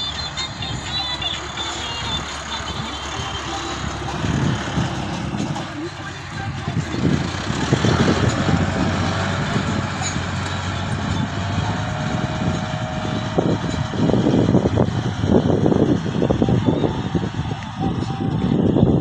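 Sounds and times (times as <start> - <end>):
backhoe loader engine: 0.0 - 19.0
tractor diesel engine running: 0.0 - 19.0.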